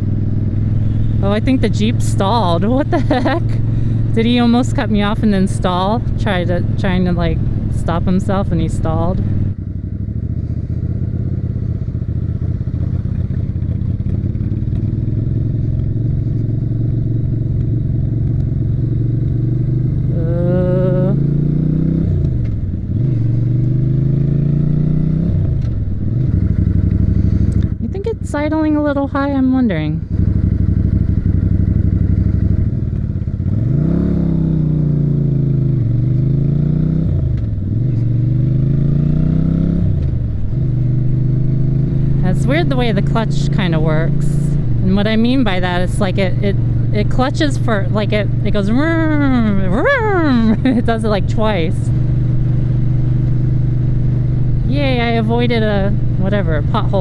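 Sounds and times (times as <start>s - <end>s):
small motorcycle engine running: 0.0s - 57.0s.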